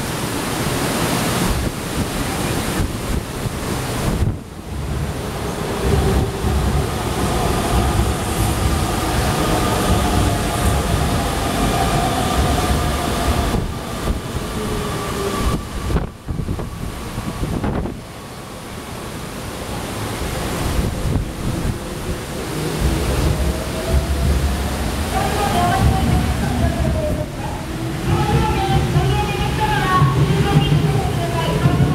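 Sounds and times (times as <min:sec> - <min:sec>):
wind on microphone: 0:00.0 - 0:18.6, 0:20.0 - 0:31.9
heavy rain hiss: 0:00.0 - 0:31.9.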